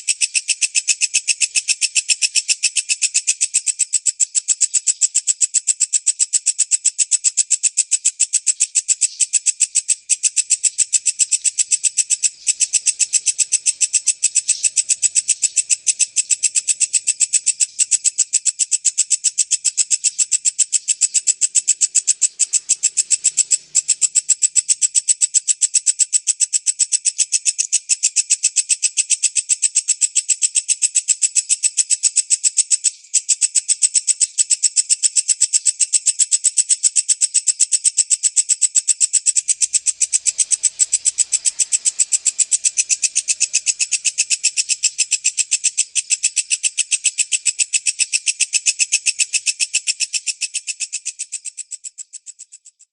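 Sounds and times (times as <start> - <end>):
katydid chirping: 0.0 - 52.9.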